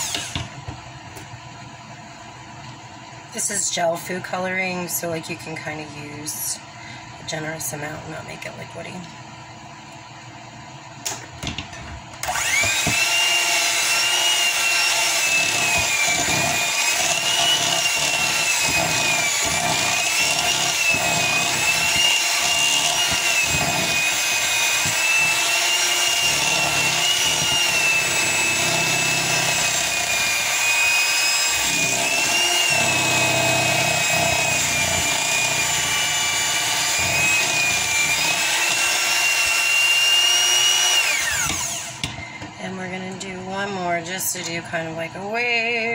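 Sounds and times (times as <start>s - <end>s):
electric hand mixer whirring: 0.0s - 6.6s, 9.4s - 45.8s.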